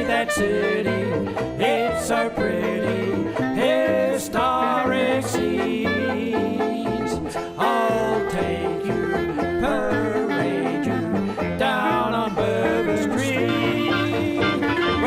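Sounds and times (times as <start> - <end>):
song with plucked strings: 0.0 - 15.0.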